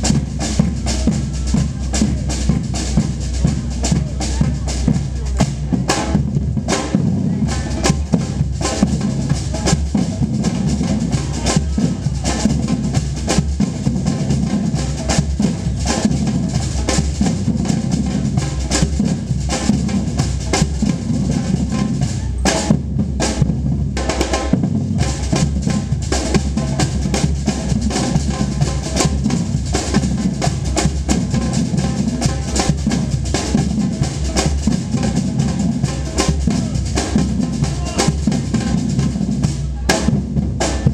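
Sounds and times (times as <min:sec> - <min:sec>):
samba percussion band: 0:00.0 - 0:40.9.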